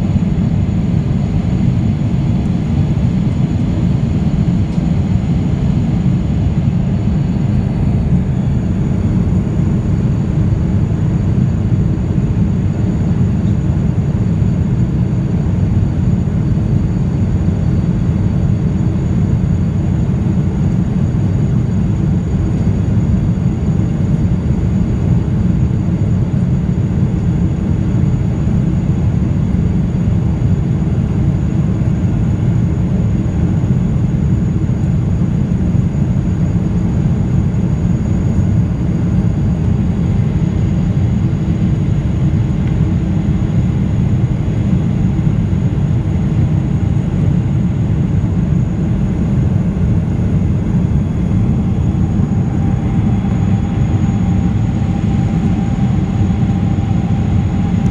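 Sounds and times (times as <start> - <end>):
faint high whine: 0.0 - 57.9
faint steady hum: 0.0 - 57.9
jet engine rumble in cabin: 0.0 - 57.9.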